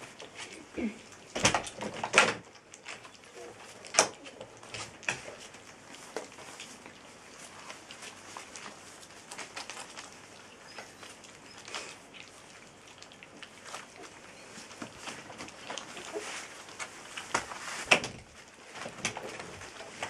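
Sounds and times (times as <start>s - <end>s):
puppies chewing and smacking: 0.0s - 20.0s.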